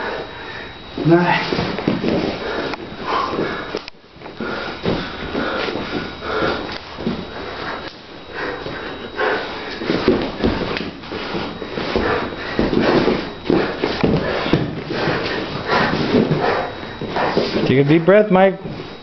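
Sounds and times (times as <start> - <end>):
people breathing hard: 0.0 - 19.0
bodies thumping on mats: 1.0 - 18.0.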